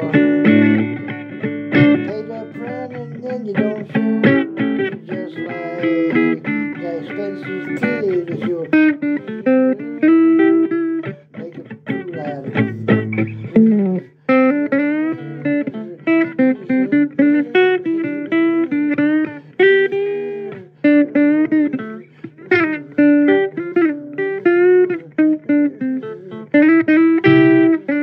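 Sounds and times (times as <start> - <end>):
blues guitar bending notes: 0.0 - 28.0.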